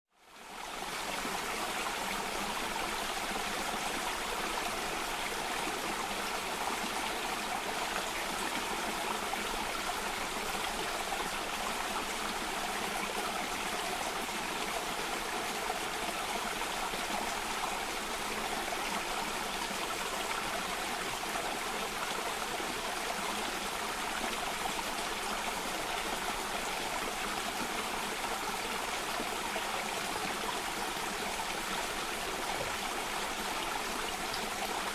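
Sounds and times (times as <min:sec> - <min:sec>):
cascading stream of water: 0:00.2 - 0:34.9.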